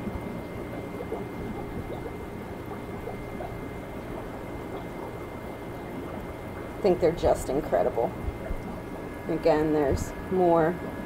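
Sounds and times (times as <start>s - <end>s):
aquarium water bubbling: 0.0s - 11.0s.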